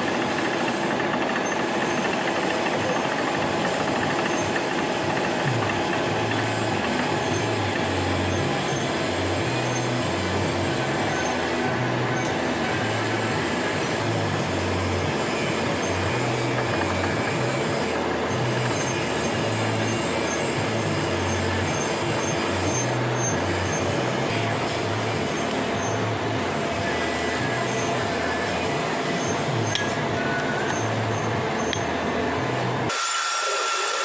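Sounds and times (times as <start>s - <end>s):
milling machine running: 0.0s - 34.0s.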